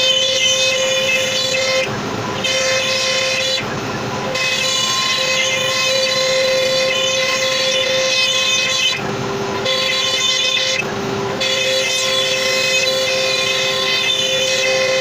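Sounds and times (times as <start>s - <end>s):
router spindle high whine: 0.0s - 15.0s.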